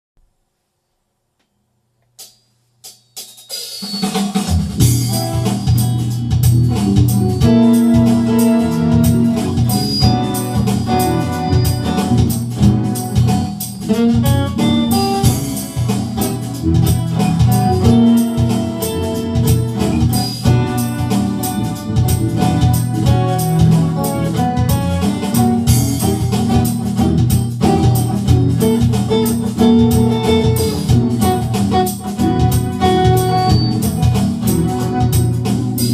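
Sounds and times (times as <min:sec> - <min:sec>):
drum kit playing steady beat: 0:02.1 - 0:35.9
bass: 0:04.4 - 0:35.9
organ: 0:04.8 - 0:35.9.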